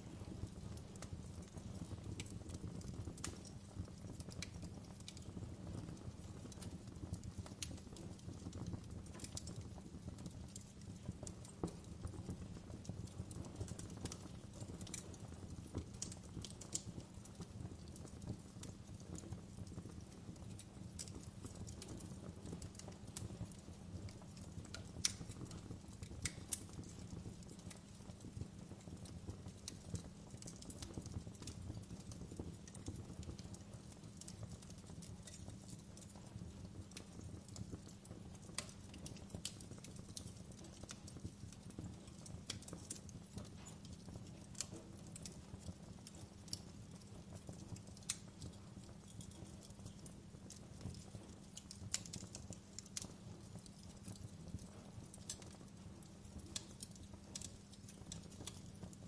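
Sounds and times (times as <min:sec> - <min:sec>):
log fire crackling: 0:00.0 - 0:59.0.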